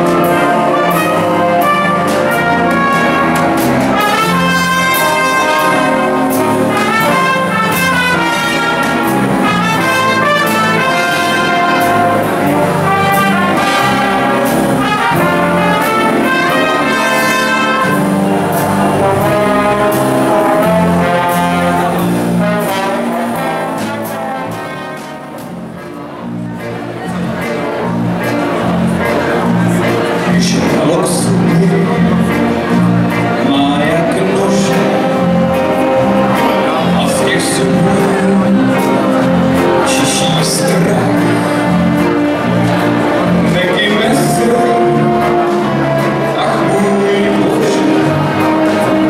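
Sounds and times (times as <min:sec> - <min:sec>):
drums: 0:00.0 - 0:49.0
trumpets and trombones: 0:00.0 - 0:49.0.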